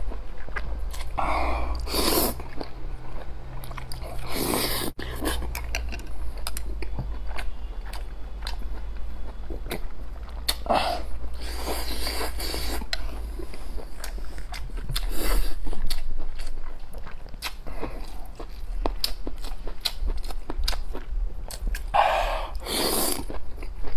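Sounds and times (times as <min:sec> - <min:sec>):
crunchy chewing: 0:00.0 - 0:23.9.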